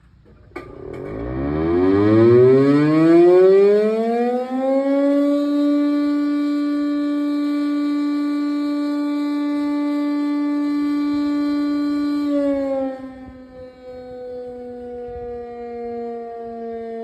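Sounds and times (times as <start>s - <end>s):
electric motor siren winding up: 0.7s - 17.0s.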